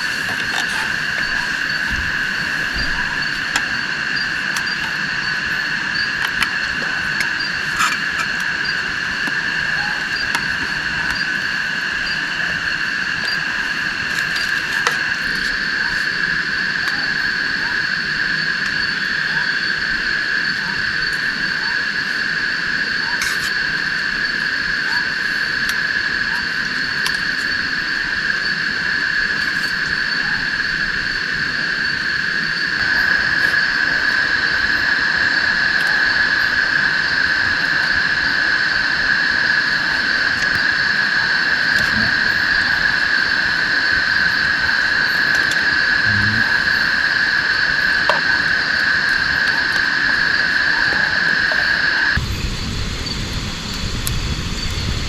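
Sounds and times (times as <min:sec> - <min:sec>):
rain hiss: 0:00.0 - 0:19.2, 0:23.2 - 0:55.0
high-pitched drone: 0:00.0 - 0:22.2, 0:31.7 - 0:55.0.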